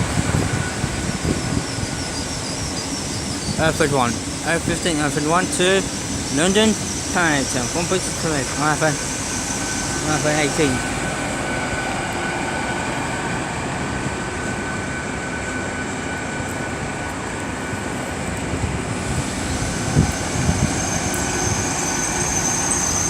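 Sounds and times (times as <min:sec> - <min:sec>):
high whine of train: 0:00.0 - 0:23.0
train rumble: 0:00.0 - 0:23.0.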